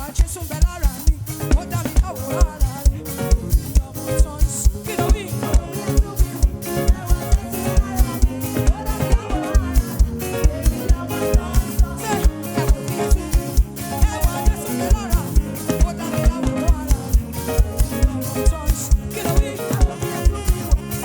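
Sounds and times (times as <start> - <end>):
live band playing gospel music: 0.0 - 21.0.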